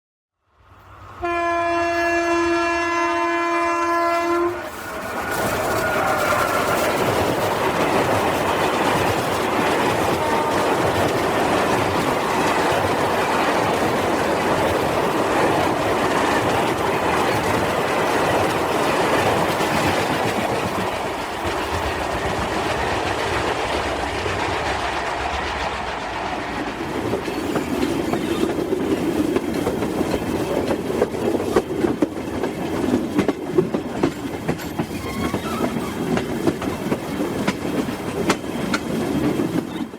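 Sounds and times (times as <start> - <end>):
train wheels rumbling on rails: 0.9 - 39.9
clickety-clack over rail joints: 4.6 - 39.9.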